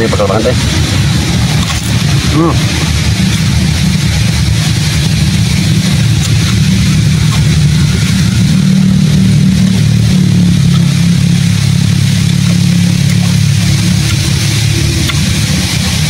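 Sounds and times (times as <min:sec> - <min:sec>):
engine running with low drone: 0:00.0 - 0:16.0.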